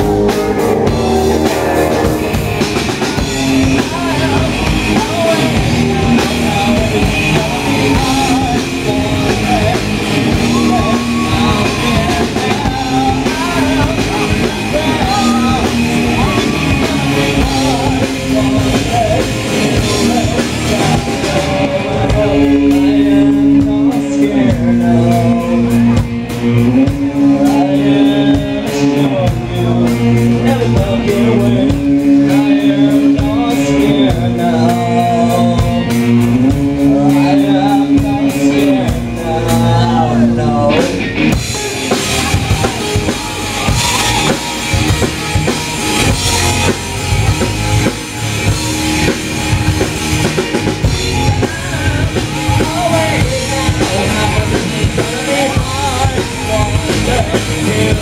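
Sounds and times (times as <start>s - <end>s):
drum kit: 0.0s - 58.0s
guitar: 0.0s - 58.0s
low guitar riff: 0.0s - 58.0s
person singing: 0.0s - 58.0s.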